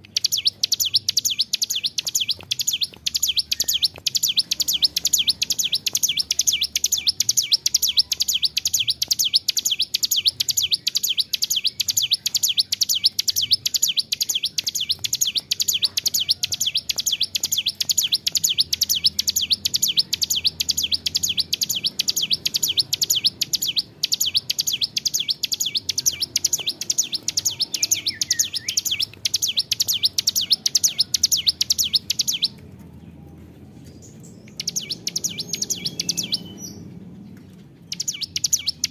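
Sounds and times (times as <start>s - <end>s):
bird singing fast high notes: 0.0s - 32.5s.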